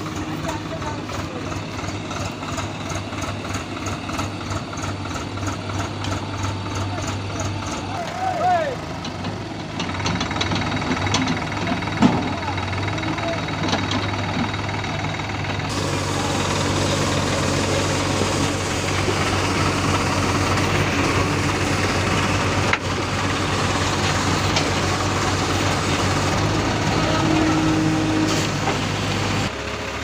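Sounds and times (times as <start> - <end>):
backhoe diesel engine running: 0.0 - 30.0
tractor diesel engine running: 0.0 - 30.0.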